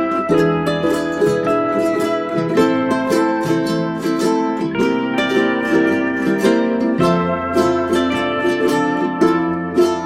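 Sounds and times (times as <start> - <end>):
plucked string tune: 0.0 - 10.0.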